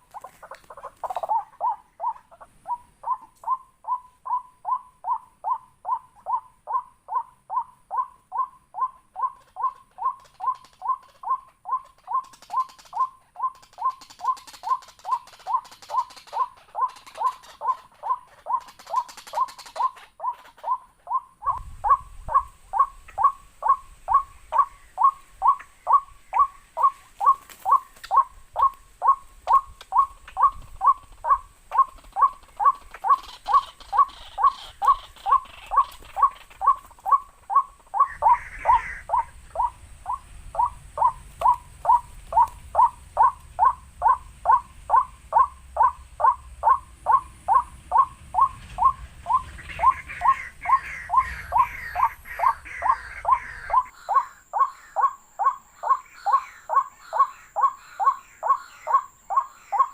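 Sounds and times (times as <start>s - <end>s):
waterhen call: 0.0s - 59.9s.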